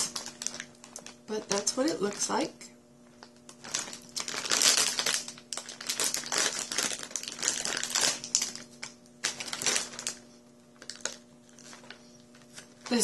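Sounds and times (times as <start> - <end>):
plastic snack bag crinkling: 0.0 - 2.4, 3.1 - 13.0.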